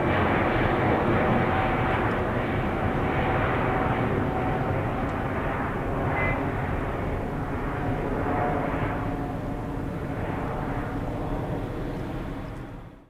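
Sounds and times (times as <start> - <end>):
jet engine rumble overhead: 0.0 - 13.0.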